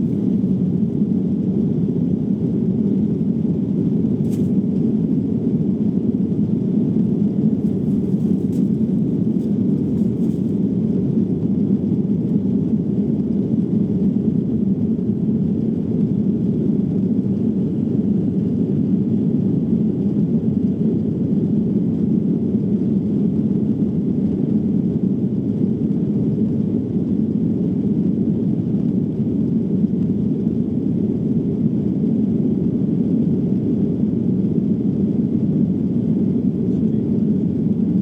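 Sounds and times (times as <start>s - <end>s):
jet engine rumble in cabin: 0.0s - 38.0s.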